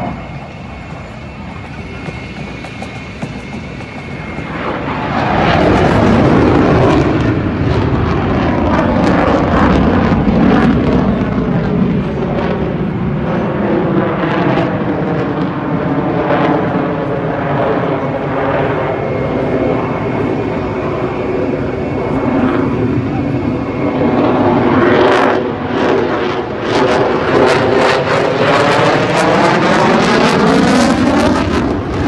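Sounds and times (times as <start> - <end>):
jet aircraft flying overhead: 0.0 - 32.0.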